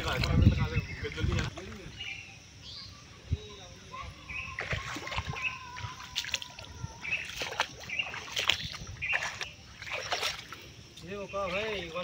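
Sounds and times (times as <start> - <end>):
splashing in muddy water: 0.0 - 2.2, 4.2 - 12.0.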